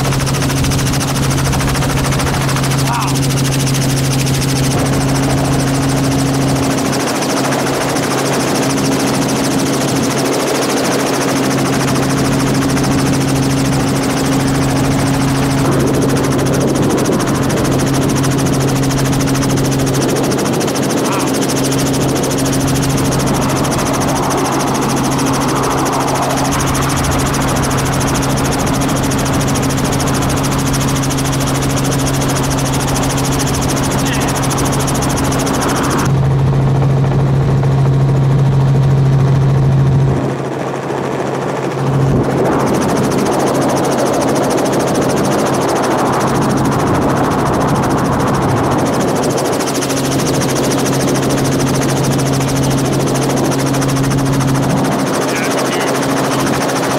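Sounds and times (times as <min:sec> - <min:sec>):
helicopter cabin hum: 0:00.0 - 0:56.9.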